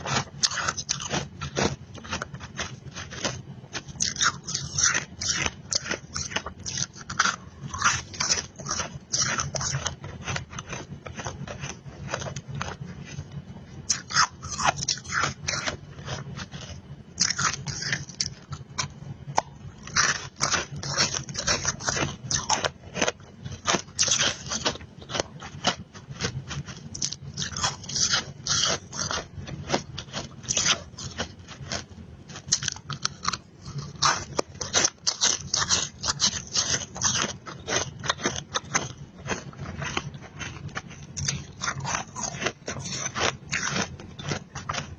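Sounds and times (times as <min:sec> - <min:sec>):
chewing crunchy frost: 0:00.0 - 0:44.9.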